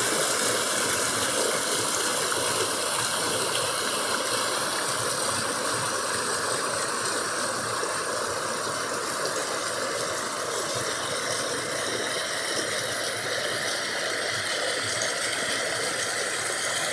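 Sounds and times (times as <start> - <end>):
river water rushing: 0.0 - 16.9.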